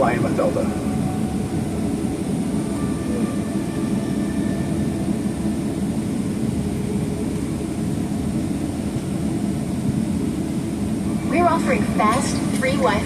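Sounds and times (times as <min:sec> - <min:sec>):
airplane cabin rumble: 0:00.0 - 0:13.0
faint steady whines: 0:00.0 - 0:13.0.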